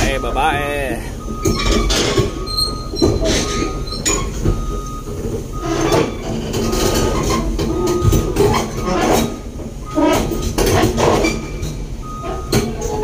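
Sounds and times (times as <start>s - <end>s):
excavator tracks clanking and squealing: 0.0s - 13.0s.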